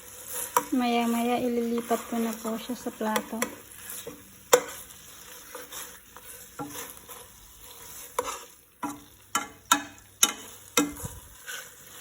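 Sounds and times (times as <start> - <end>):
light sizzle: 0.0 - 12.0
utensil scraping frying pan: 0.0 - 12.0.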